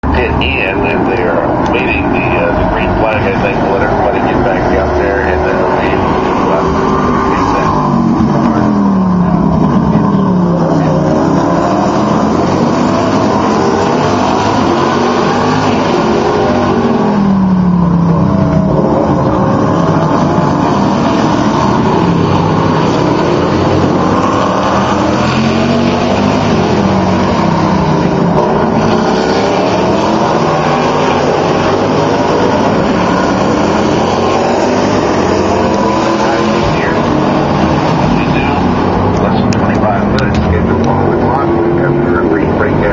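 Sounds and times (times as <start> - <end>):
race car engines braking and accelerating: 0.0 - 42.9.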